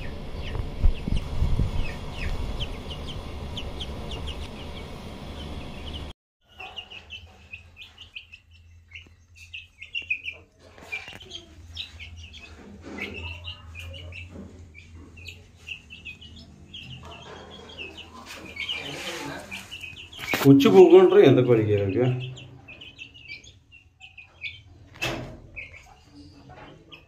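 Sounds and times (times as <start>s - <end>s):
chicks pecking plastic tray: 0.0s - 4.9s, 6.6s - 27.0s
chicks peeping: 0.0s - 27.0s.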